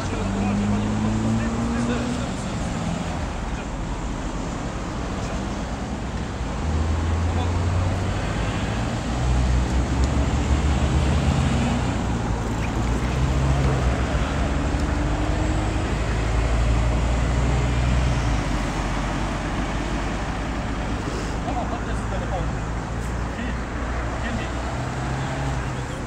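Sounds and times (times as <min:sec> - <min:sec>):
bus engine running: 0:00.0 - 0:26.0
car engines: 0:00.0 - 0:26.0
traffic rumble: 0:00.0 - 0:26.0.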